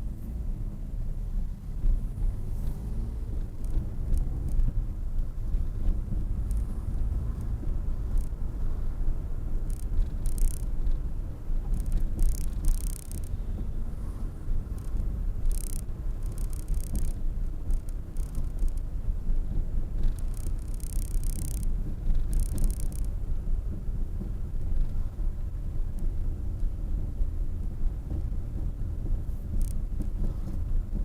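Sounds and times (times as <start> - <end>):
car rumble: 0.0 - 31.0.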